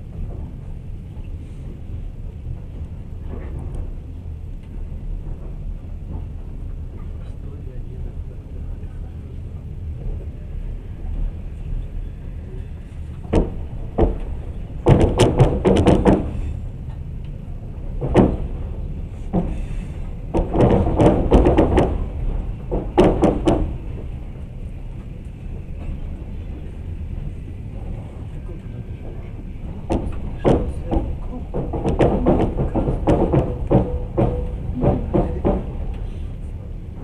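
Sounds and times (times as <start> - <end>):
metallic clacks of wheels on rails: 0.0 - 37.0
train rumbling inside carriage: 0.0 - 37.0.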